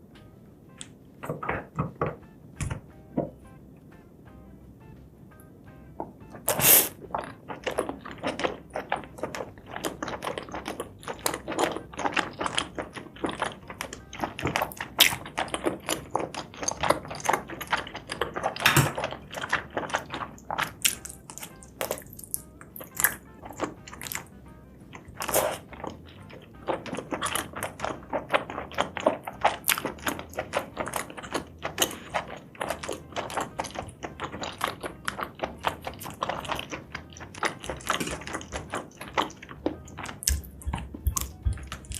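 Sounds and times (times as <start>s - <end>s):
chewing with wet mouth clicks: 6.4s - 41.9s.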